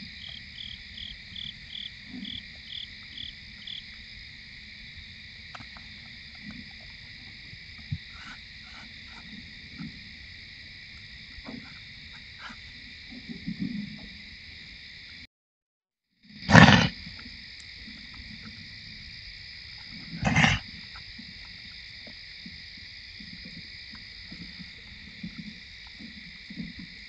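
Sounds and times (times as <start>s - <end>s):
insect chirping in regular beat: 0.0s - 15.2s, 16.3s - 27.0s
crickets trilling: 0.0s - 15.3s, 16.2s - 27.0s.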